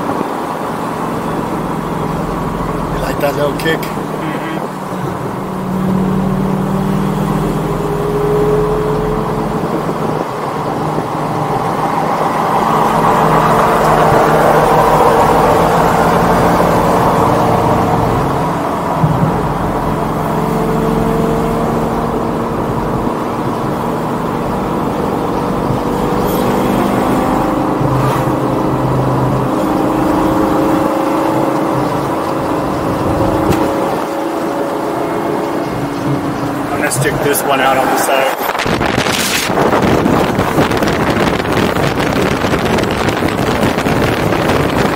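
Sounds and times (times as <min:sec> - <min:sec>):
sports car engine driving: 0:00.0 - 0:44.9.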